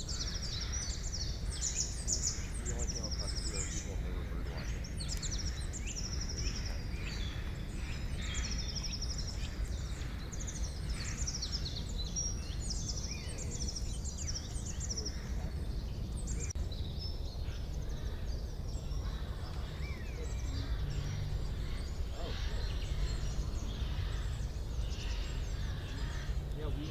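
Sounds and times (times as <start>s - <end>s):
birds chirping and trilling: 0.0s - 26.9s
low background rumble: 0.0s - 26.9s.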